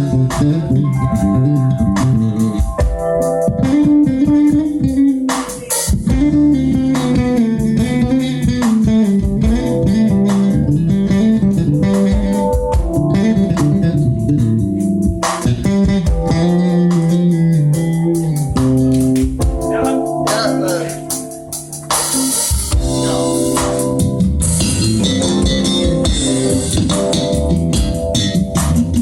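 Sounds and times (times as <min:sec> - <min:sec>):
bass guitar: 0:00.0 - 0:29.0.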